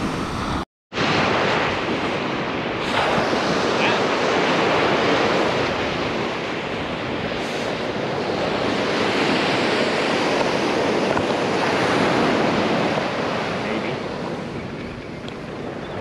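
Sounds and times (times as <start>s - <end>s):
surf breaking on sand: 0.0s - 14.8s
wind blowing across microphone: 0.0s - 16.0s.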